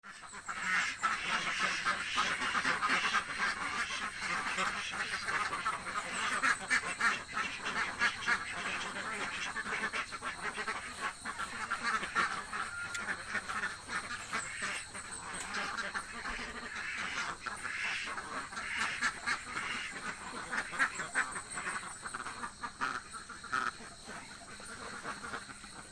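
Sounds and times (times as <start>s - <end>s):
ducks quacking: 0.0s - 25.9s.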